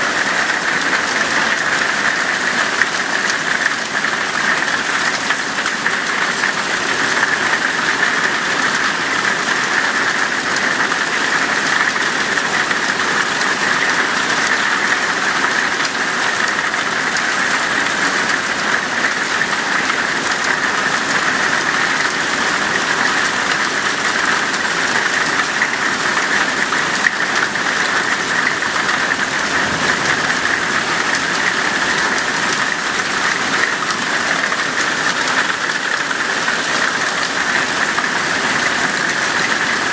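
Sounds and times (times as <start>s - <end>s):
heavy hail pattering on ground: 0.0s - 39.9s.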